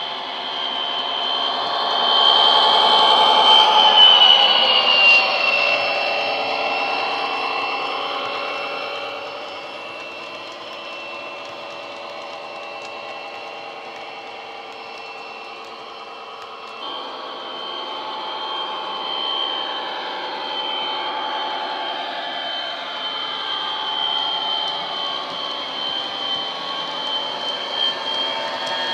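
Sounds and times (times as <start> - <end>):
simulated diesel engine whine: 0.0 - 28.9.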